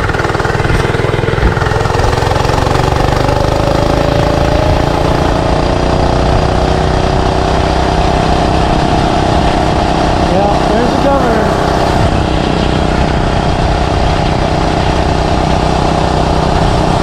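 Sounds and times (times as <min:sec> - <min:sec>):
mini bike engine running: 0:00.0 - 0:17.0.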